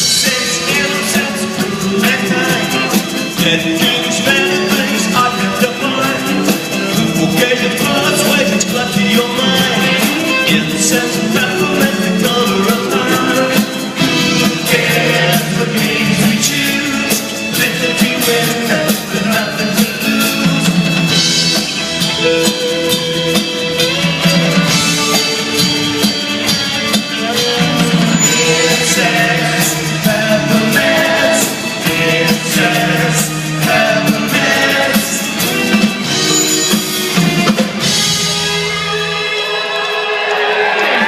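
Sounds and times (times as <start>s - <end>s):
person singing: 0.0s - 21.4s, 22.0s - 38.1s
rock band playing live: 0.0s - 41.0s.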